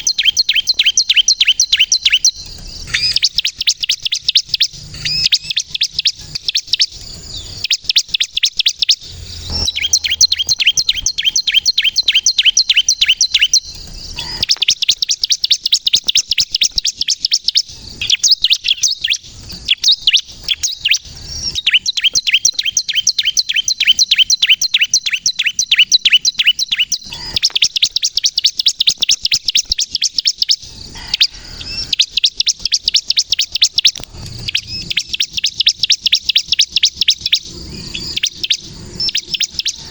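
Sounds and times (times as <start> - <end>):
bird singing high sharp chirps: 0.0 - 39.9.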